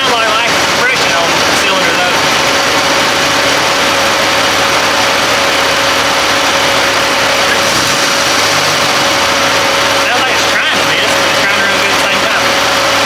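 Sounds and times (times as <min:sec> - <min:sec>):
engine idling with misfire: 0:00.0 - 0:13.0.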